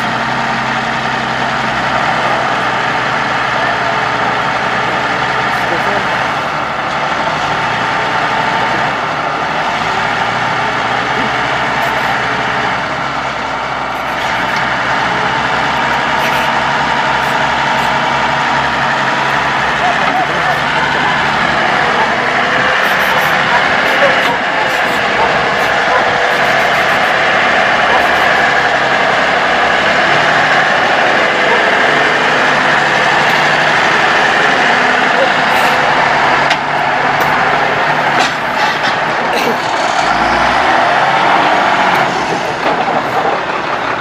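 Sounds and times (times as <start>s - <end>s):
diesel tractor engine under load: 0.0s - 44.0s.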